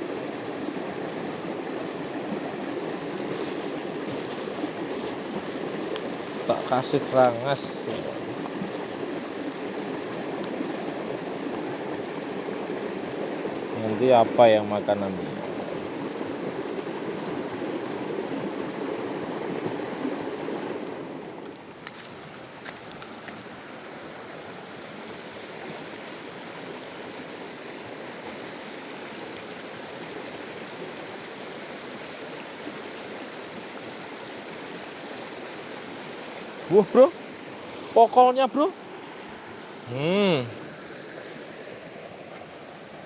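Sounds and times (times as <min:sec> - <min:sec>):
stream water burbling over stones: 0:00.0 - 0:43.0.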